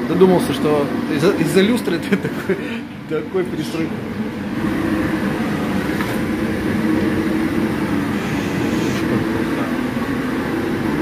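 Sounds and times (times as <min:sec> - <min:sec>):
heat blower blowing: 0:00.0 - 0:11.0.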